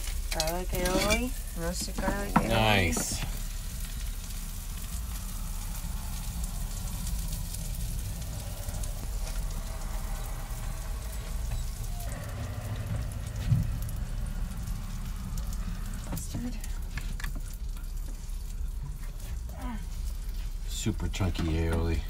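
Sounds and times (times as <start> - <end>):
food sizzling on a griddle: 0.0 - 22.0
low hum: 0.0 - 22.0.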